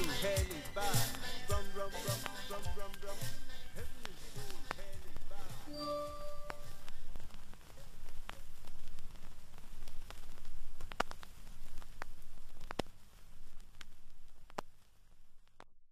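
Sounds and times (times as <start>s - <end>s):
vinyl pops: 0.0s - 5.7s, 6.3s - 15.8s
vinyl crackle and hiss: 0.0s - 15.9s.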